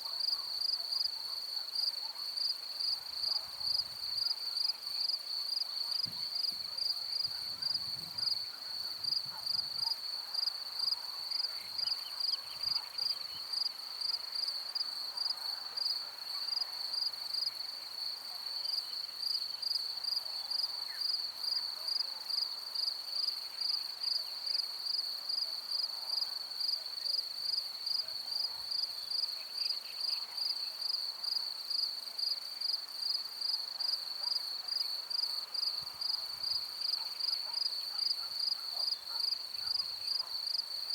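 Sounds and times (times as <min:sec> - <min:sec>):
faint insect calls: 0:00.0 - 0:40.9.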